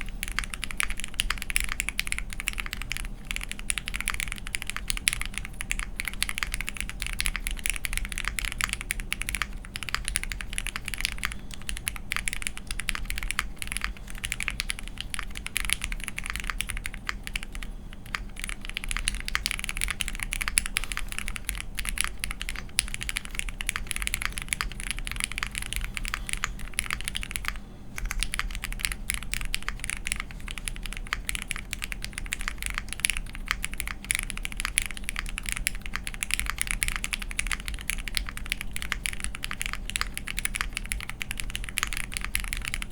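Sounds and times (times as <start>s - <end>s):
mechanical keyboard typing: 0.0s - 42.9s.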